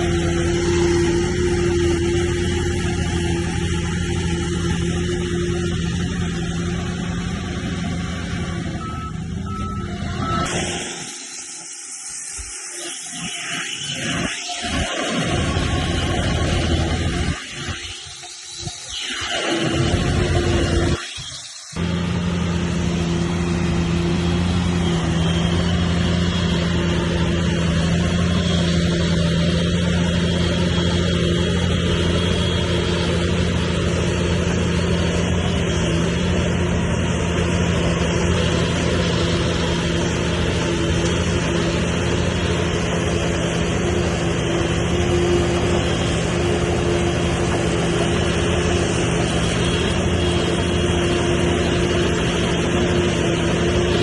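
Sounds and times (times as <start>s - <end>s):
bulldozer diesel engine running: 0.0s - 19.0s, 19.6s - 54.0s.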